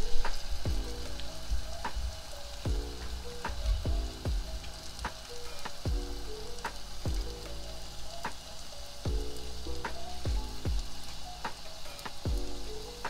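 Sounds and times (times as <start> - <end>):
background music with a beat: 0.0 - 13.0
food deep-frying in oil: 0.0 - 13.0.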